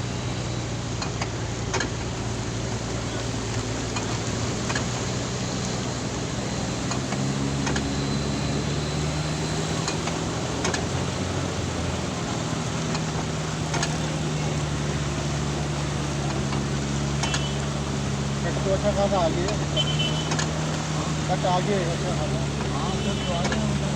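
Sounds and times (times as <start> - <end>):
car engine hum inside cabin: 0.0 - 23.9.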